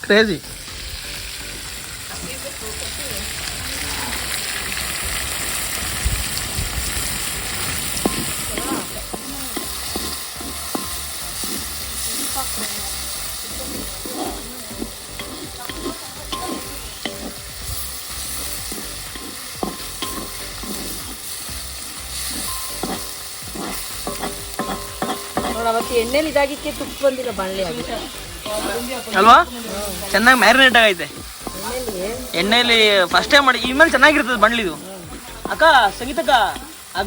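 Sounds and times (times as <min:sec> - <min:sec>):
vegetables sizzling in hot oil: 0:00.0 - 0:37.0
ladle scraping and knocking pan: 0:04.7 - 0:37.0.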